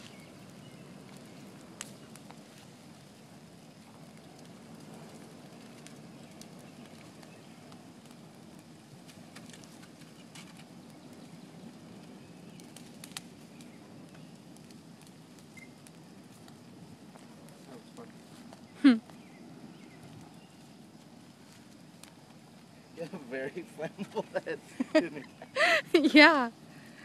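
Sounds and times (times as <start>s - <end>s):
fire burning with low rush: 0.0s - 27.0s
fire crackling and popping: 0.0s - 27.0s.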